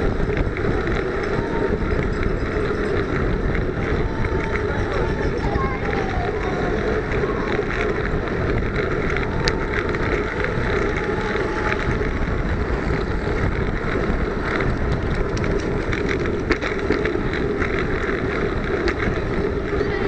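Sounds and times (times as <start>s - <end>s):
small clicks and rattles: 0.0s - 20.0s
tyre and road noise: 0.0s - 20.0s
wind buffeting microphone: 0.0s - 20.0s.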